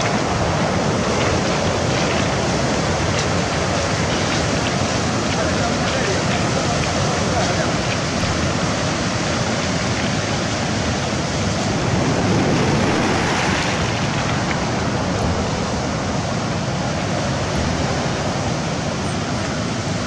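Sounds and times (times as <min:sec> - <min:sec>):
sea surf washing: 0:00.0 - 0:20.0
wind on microphone: 0:00.0 - 0:20.0.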